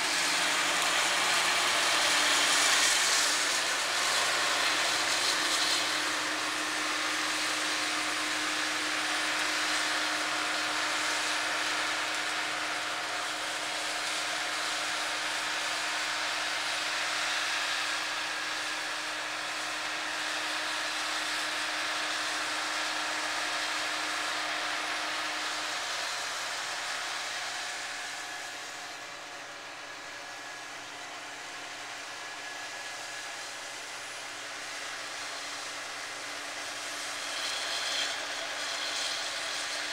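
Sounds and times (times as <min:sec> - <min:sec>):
combine harvester running: 0:00.0 - 0:39.9
steady mechanical hum: 0:00.0 - 0:39.9.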